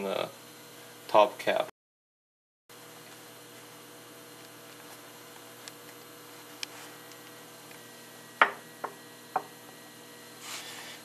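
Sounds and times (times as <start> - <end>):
electrical hum: 0.0 - 1.7, 2.7 - 11.0.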